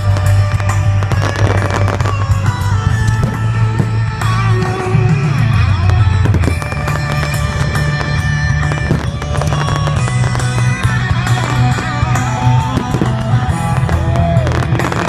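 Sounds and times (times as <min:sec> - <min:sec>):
fireworks bursting and crackling: 0:00.0 - 0:15.0
rock music with guitar: 0:00.0 - 0:15.0.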